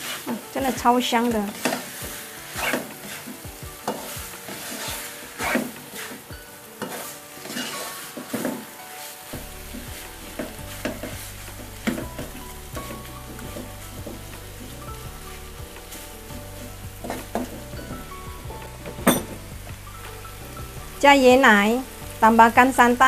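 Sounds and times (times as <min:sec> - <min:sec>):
spatula scraping a pan: 0:00.0 - 0:21.0
meat sizzling in a pan: 0:00.0 - 0:23.0.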